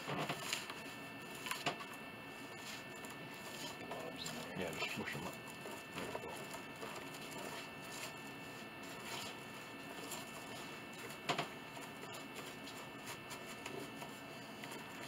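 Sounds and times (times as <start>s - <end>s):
brush spreading glue on wood: 2.3s - 15.0s.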